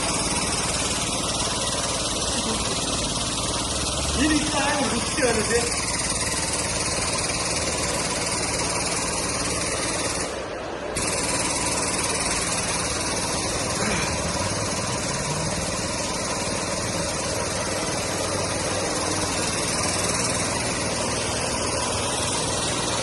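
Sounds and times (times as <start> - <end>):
machine motor running: 0.0 - 23.0.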